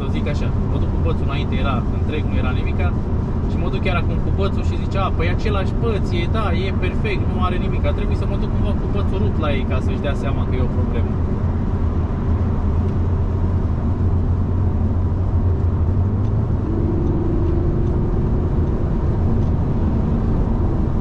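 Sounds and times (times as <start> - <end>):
car road and engine drone: 0.0 - 21.0.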